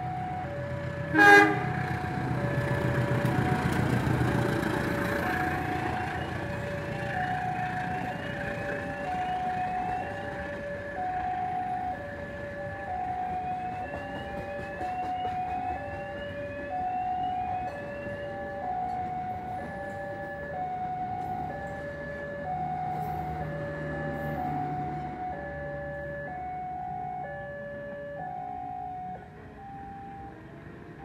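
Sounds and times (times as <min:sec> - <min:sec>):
two-tone warning alarm: 0:00.0 - 0:31.0.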